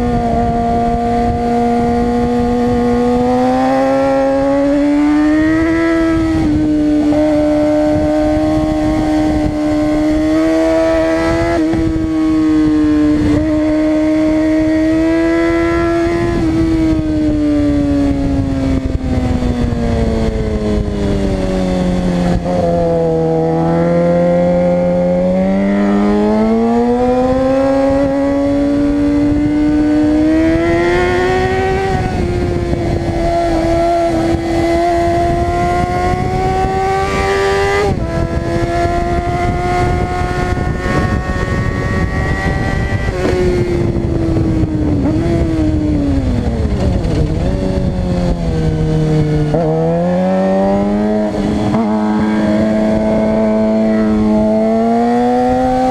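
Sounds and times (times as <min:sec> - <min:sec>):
motorcycle engine revving: 0:00.0 - 0:55.9
wind noise: 0:00.0 - 0:55.9.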